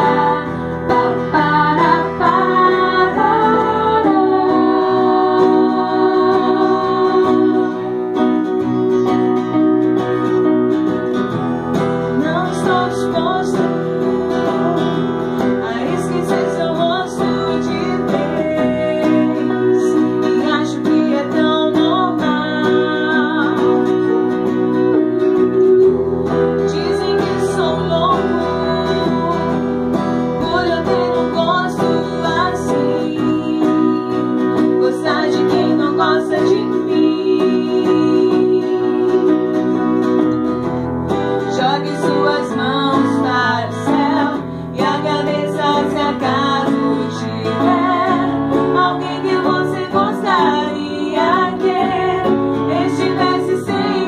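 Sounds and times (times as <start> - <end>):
women singing: 0.0 - 11.1, 11.7 - 54.0
instrumental accompaniment: 0.0 - 54.0.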